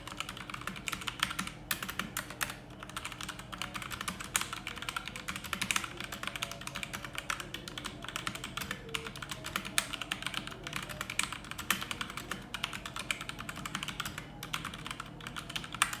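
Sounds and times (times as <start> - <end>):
mechanical keyboard typing: 0.0 - 16.0.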